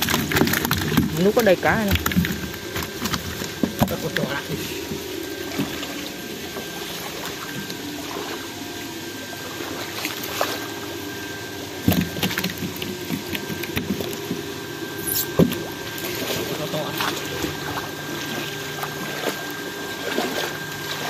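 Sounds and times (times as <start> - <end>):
pond water splashing and trickling: 0.0 - 21.0
steady pump hum: 0.0 - 21.0.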